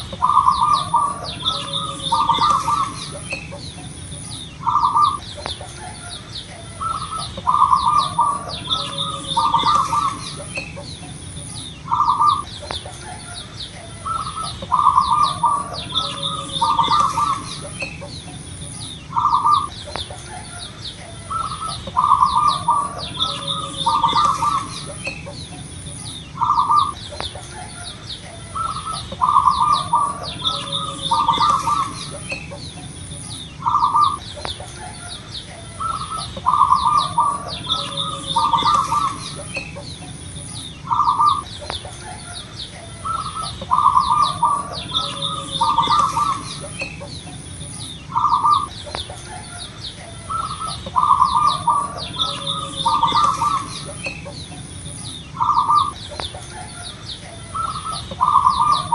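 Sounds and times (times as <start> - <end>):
dove cooing: 0.0 - 58.9
small birds chirping: 0.0 - 58.9.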